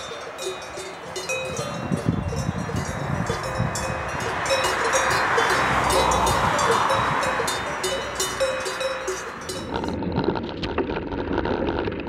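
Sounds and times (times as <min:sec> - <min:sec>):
cowbells clanking: 0:00.0 - 0:10.0
steady rushing noise: 0:00.0 - 0:10.0.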